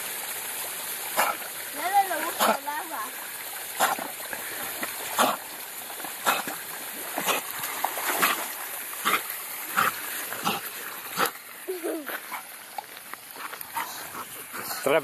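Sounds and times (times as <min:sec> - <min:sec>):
small waterfall rushing: 0:00.0 - 0:15.0
dog splashing in water: 0:00.4 - 0:14.9.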